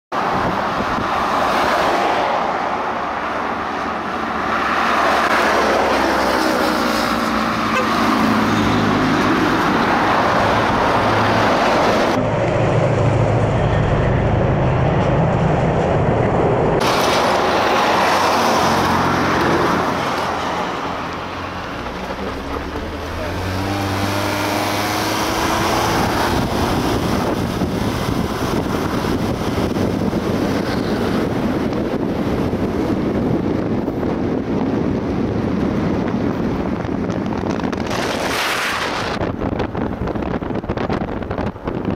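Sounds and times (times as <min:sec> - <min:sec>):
road and wind noise: 0:00.1 - 0:41.9
car engines passing: 0:00.2 - 0:41.9.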